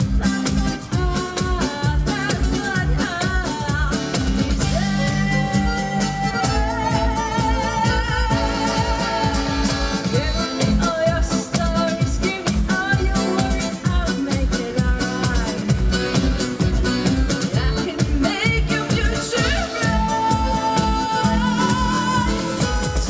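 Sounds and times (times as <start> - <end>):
accordion playing: 0.0 - 23.0
double bass: 0.0 - 23.0
steady beat: 0.0 - 23.0
woman singing: 0.0 - 23.0.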